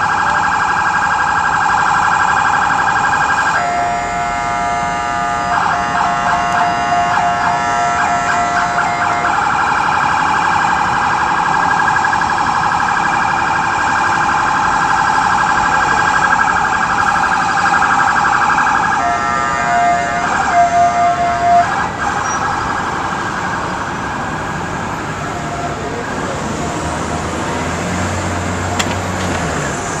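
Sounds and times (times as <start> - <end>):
low traffic rumble: 0.0 - 30.0
police siren: 0.0 - 30.0.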